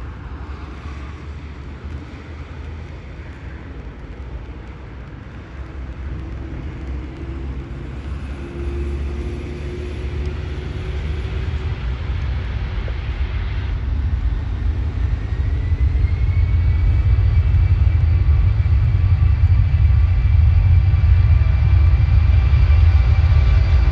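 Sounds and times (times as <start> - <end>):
high engine whine: 0.0 - 23.9
jet engines rumbling: 0.0 - 23.9.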